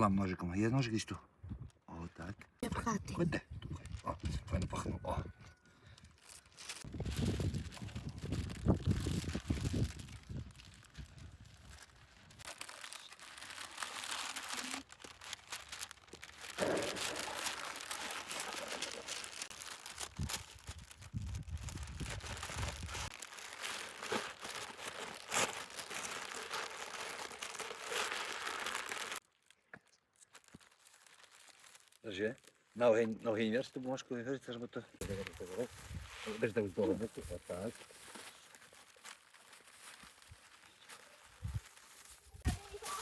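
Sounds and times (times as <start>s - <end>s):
material crinkling and rustling: 6.1s - 34.0s, 35.0s - 43.0s.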